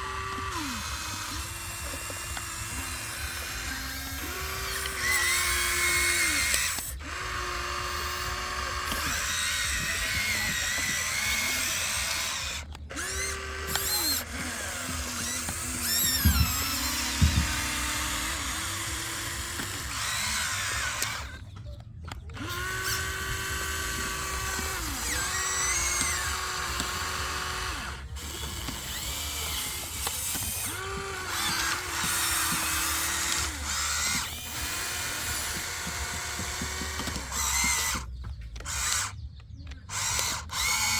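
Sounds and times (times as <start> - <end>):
small electric motor whining: 0.0 - 40.9.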